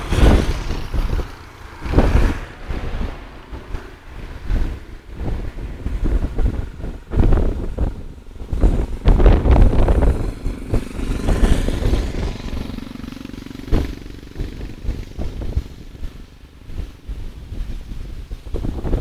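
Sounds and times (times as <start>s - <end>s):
motor vehicle passing by: 0.0s - 18.4s
wind buffeting microphone: 0.0s - 19.0s.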